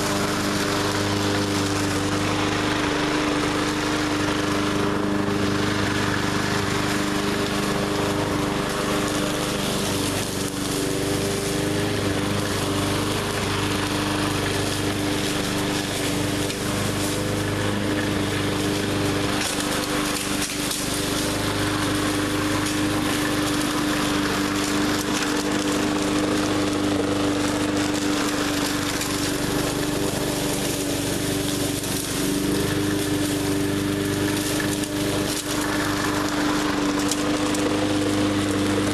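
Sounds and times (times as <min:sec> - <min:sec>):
mower blade chopping brush: 0:00.0 - 0:38.9
push mower engine running: 0:00.0 - 0:38.9.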